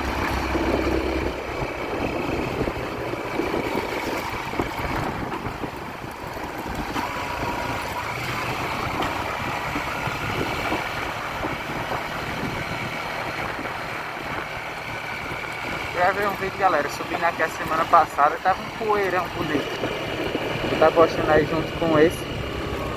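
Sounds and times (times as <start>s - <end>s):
tyres rumbling on dirt road: 0.0s - 22.9s
vehicle engine running: 0.0s - 22.9s.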